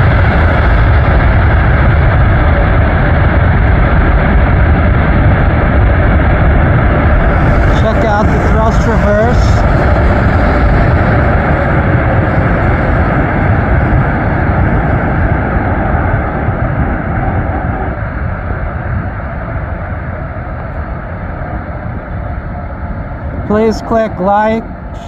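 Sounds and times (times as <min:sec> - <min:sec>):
jet engines reverse thrust: 0:00.0 - 0:25.0.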